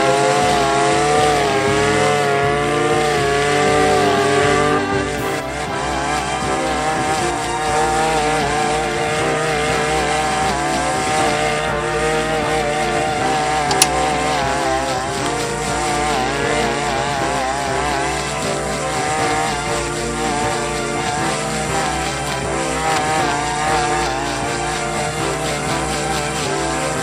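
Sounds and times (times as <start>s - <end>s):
blade cutting grass: 0.0s - 27.0s
brush cutter engine running: 0.0s - 27.0s.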